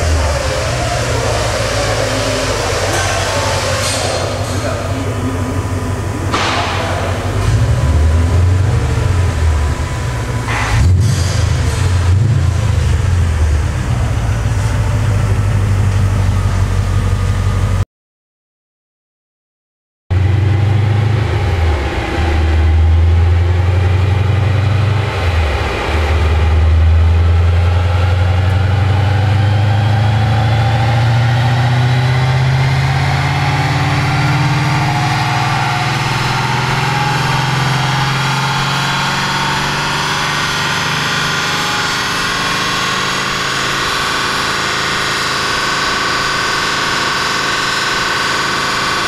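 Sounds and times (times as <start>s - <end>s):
car engine revving on a dyno: 0.0s - 17.8s, 20.1s - 49.0s.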